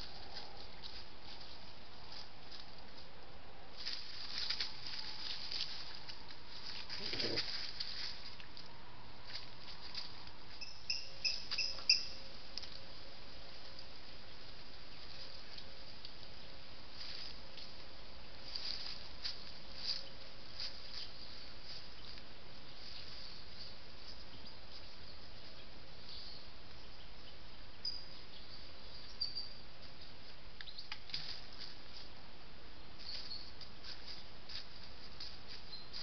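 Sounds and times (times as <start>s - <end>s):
faint rustles and ticks: 0.0s - 25.7s, 29.3s - 32.2s, 33.0s - 36.0s
microphone hiss: 0.0s - 36.0s.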